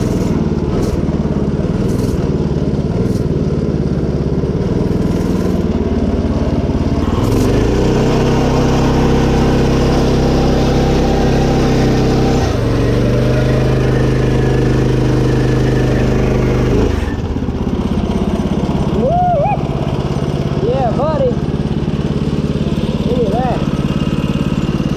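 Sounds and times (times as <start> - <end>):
mini bike engine at full throttle: 0.0 - 24.9.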